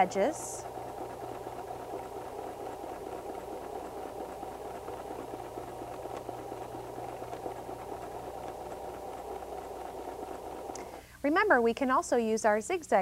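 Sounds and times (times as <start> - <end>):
sewing machine running: 0.0 - 11.1.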